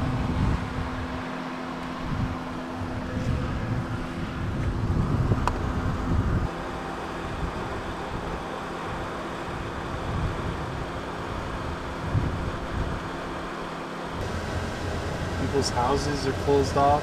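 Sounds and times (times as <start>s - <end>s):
wind buffeting microphone: 0.0s - 6.5s, 7.2s - 13.5s, 14.1s - 17.0s.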